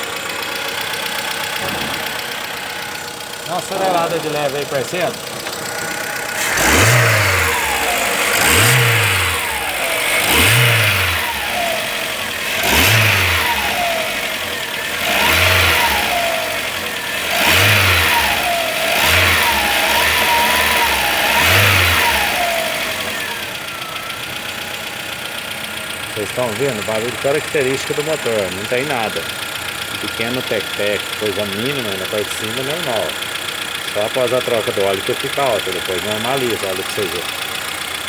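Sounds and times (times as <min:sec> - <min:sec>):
car engine blipped from idle: 0:00.0 - 0:38.0
small engine tick: 0:00.0 - 0:38.0.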